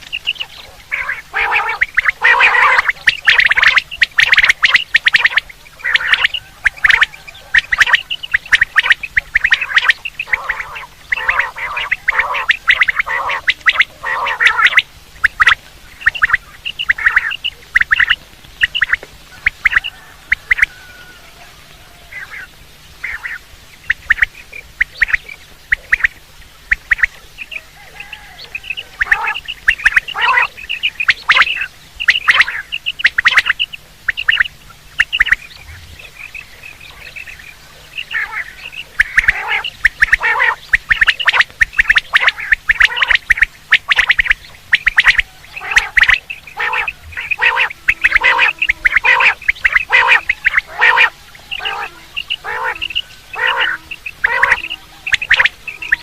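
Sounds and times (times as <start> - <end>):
quail calling: 0.0 - 56.0.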